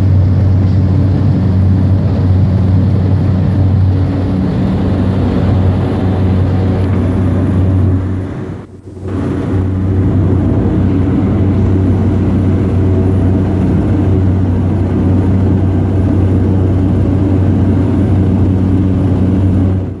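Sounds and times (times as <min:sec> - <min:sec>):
aircraft engine humming: 0:00.0 - 0:20.0.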